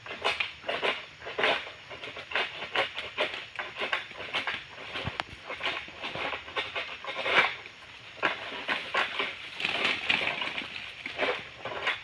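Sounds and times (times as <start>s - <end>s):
sickle scraping and hacking frond: 0.0s - 12.0s.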